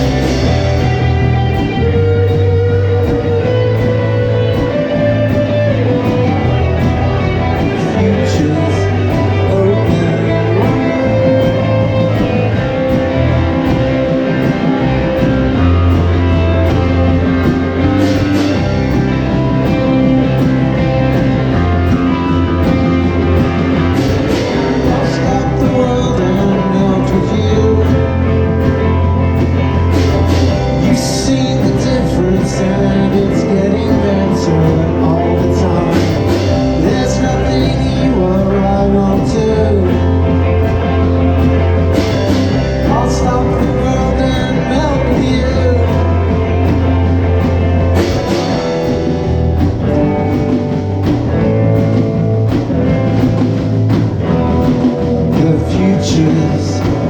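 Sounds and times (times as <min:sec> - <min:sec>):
bass notes: 0:00.0 - 0:57.0
drums: 0:00.0 - 0:57.0
electric guitar: 0:00.0 - 0:57.0.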